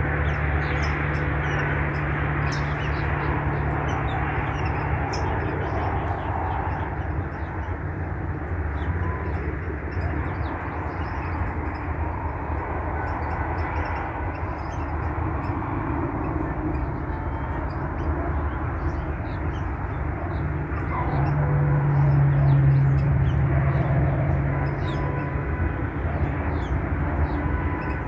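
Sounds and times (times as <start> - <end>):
distant city traffic rumble: 0.0 - 28.0
low engine drone: 0.0 - 28.0.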